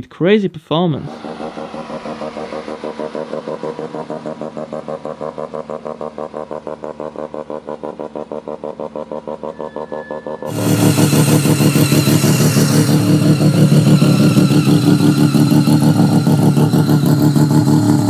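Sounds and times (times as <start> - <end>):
rotary engine running at low revs: 1.0 - 18.0.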